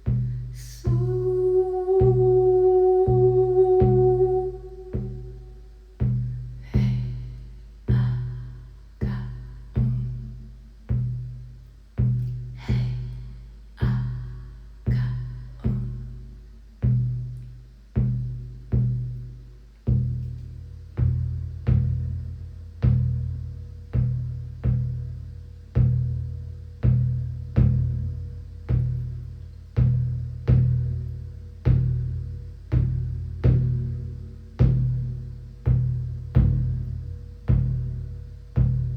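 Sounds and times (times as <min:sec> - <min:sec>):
deep drum beating: 0:00.0 - 0:19.3, 0:19.9 - 0:38.9.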